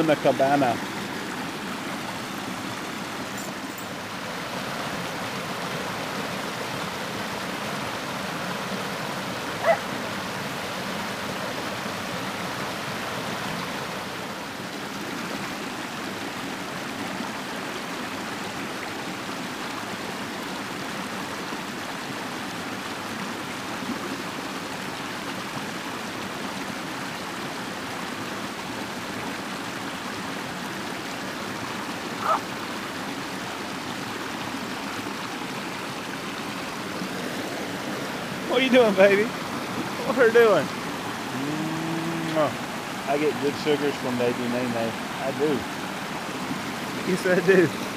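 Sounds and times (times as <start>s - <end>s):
creek water rushing over rocks: 0.0s - 47.9s.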